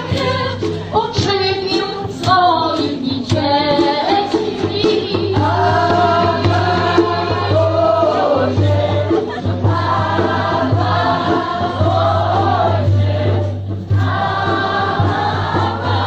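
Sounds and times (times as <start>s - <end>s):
song with singing: 0.0s - 16.0s.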